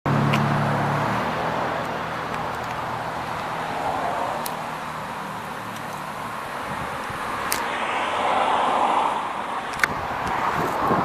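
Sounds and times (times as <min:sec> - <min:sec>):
mower engine humming: 0:00.1 - 0:11.0.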